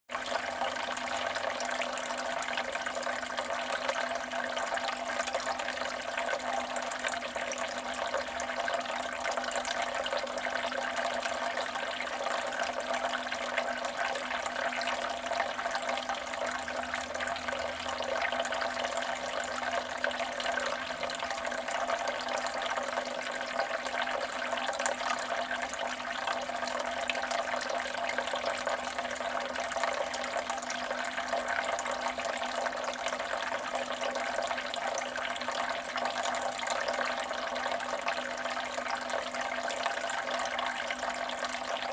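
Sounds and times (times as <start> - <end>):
water trickling and splashing: 0.1 - 41.9.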